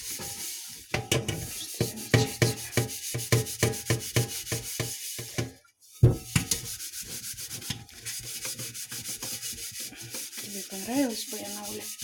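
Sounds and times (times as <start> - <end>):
scouring pad scrubbing a pot: 0.0 - 12.0.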